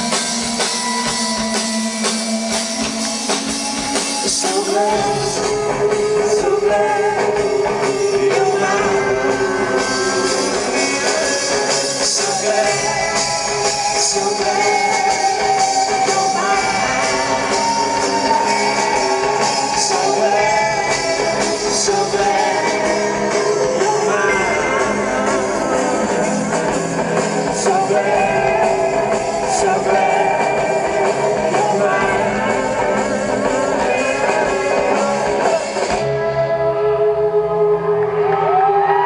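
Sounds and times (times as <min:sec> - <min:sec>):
live rock band: 0:00.0 - 0:39.0
person singing: 0:00.0 - 0:39.0.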